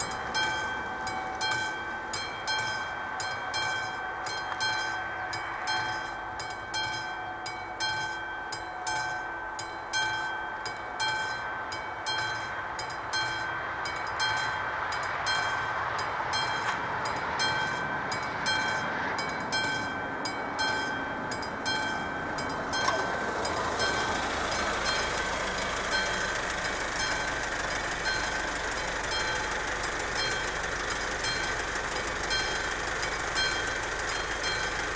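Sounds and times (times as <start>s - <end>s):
level-crossing bell ringing: 0.0s - 16.7s, 17.4s - 34.9s.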